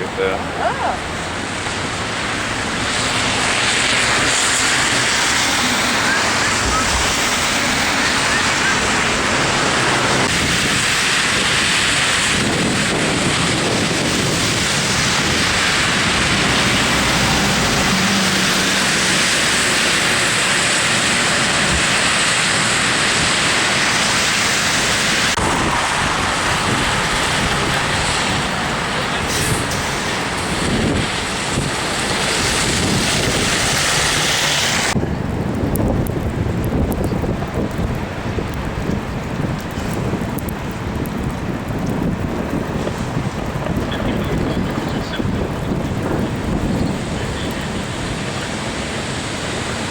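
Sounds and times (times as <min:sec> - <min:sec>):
storm wind rushing: 0:00.0 - 0:49.9.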